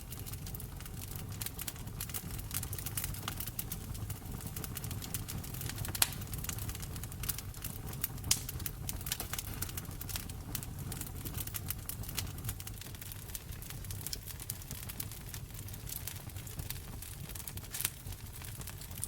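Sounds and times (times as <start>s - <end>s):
wood fire crackling: 0.0s - 19.0s
loud fire pops: 0.1s - 19.0s.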